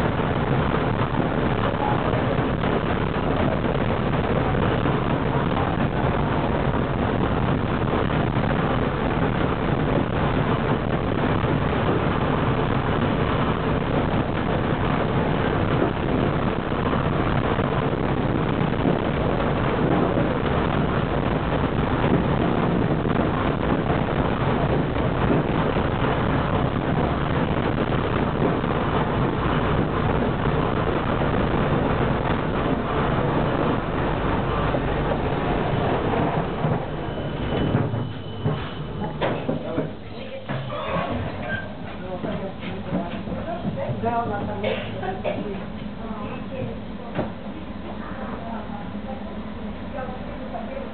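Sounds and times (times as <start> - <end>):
tram body rattling: 0.0 - 48.2
tram wheels rumbling on rails: 0.0 - 50.9.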